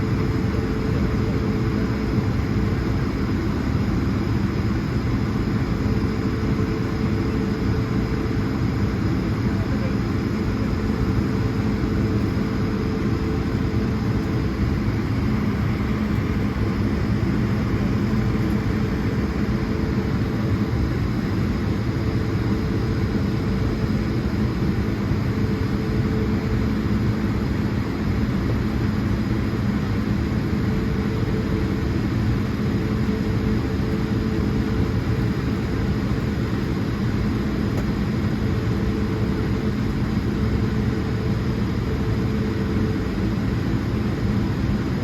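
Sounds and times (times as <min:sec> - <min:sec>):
jet engines humming in cabin: 0:00.0 - 0:45.0.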